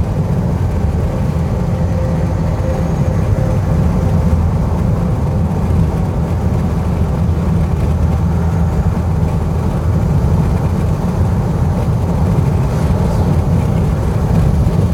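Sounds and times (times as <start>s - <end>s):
road and engine noise in vehicle: 0.0s - 14.9s.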